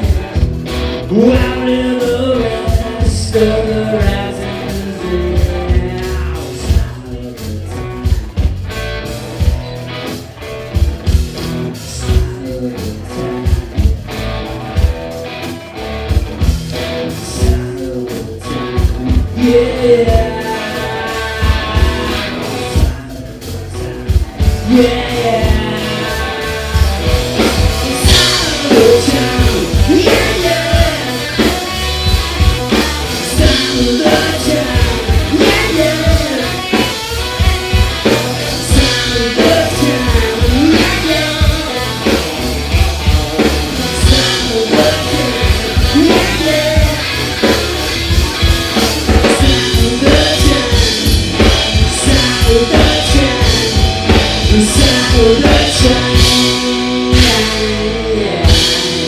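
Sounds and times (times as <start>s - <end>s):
man singing lead vocal: 0.0s - 8.5s, 11.4s - 14.0s, 16.7s - 59.0s
drum kit: 0.0s - 59.0s
electric bass: 0.0s - 59.0s
electric guitar: 0.0s - 59.0s.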